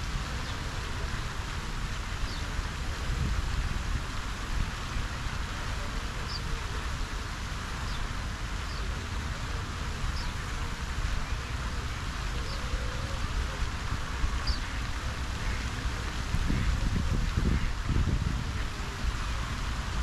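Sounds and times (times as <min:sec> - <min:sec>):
fountain jets splashing into lake: 0:00.0 - 0:20.0
low wind rumble: 0:00.0 - 0:20.0.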